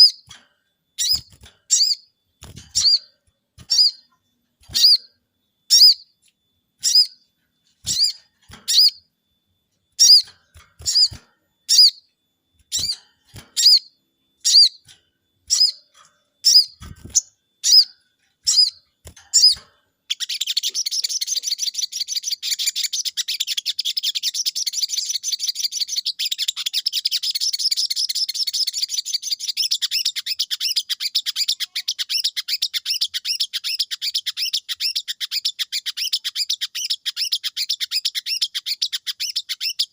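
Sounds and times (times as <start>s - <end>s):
songbird twittering song: 0.0s - 39.9s.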